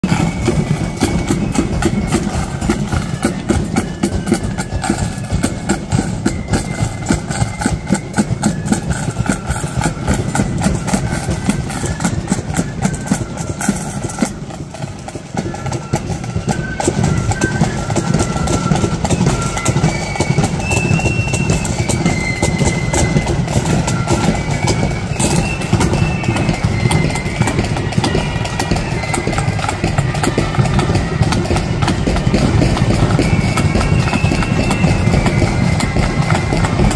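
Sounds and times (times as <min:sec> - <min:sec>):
flutes playing high melody: 0:00.0 - 0:36.9
snare drums: 0:00.0 - 0:36.9.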